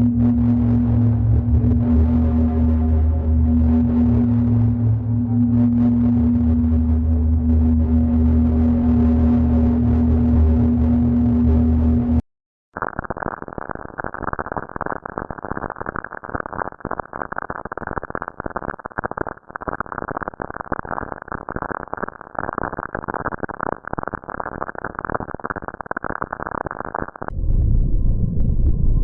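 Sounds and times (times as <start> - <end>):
crackling radio static with clicks: 0.0 - 12.2, 12.8 - 27.3.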